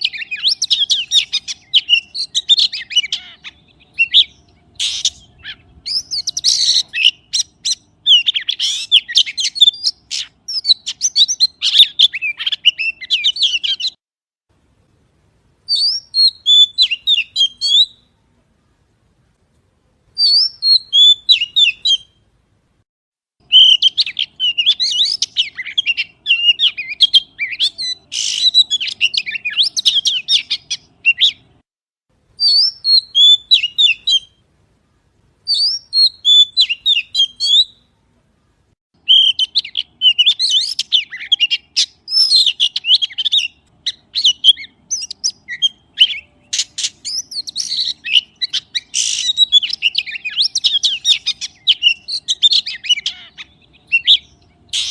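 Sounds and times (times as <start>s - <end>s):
magpie chirping and whistling: 0.0s - 14.0s, 15.7s - 18.0s, 20.2s - 22.2s, 23.5s - 31.5s, 32.4s - 34.4s, 35.5s - 37.8s, 39.0s - 54.9s.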